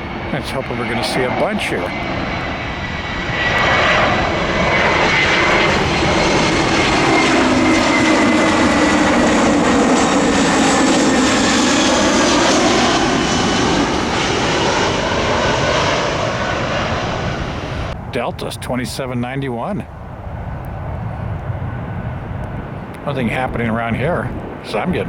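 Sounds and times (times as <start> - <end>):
jet airliner passing overhead: 0.0 - 25.0
wind buffeting microphone: 0.0 - 25.0.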